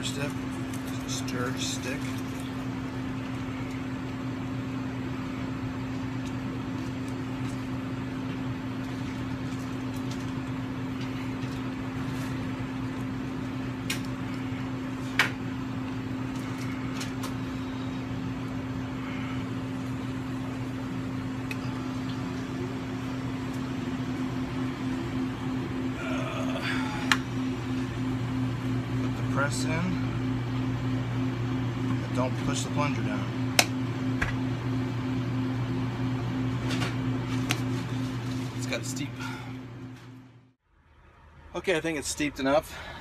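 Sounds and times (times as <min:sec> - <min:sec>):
low hum of refrigeration machinery: 0:00.0 - 0:43.0.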